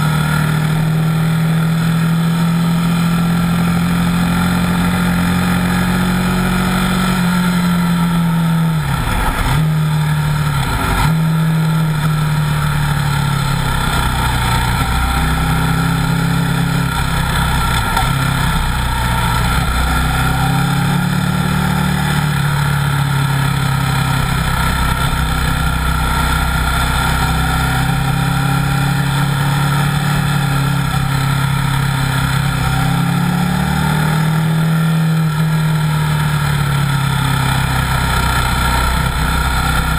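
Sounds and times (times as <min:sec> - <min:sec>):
motorcycle engine pulling hard: 0:00.0 - 0:39.9.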